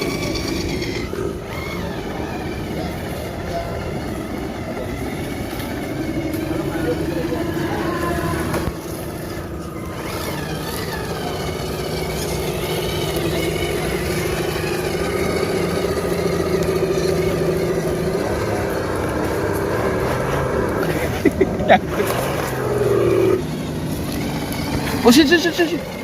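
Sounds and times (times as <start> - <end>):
toy truck motor whining: 0.0 - 21.0, 21.9 - 26.0
steady mechanical hum: 0.0 - 26.0.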